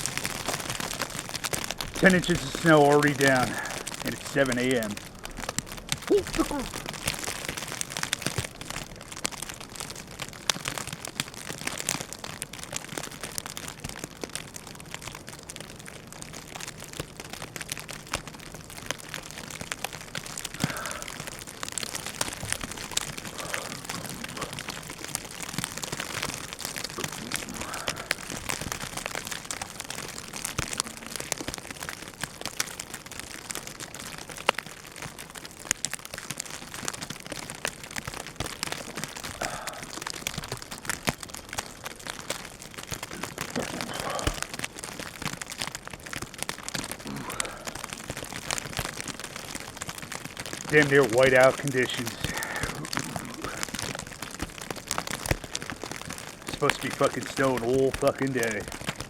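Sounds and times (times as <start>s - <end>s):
snow pattering on microphone: 0.0s - 12.1s, 17.9s - 35.1s, 36.2s - 59.0s.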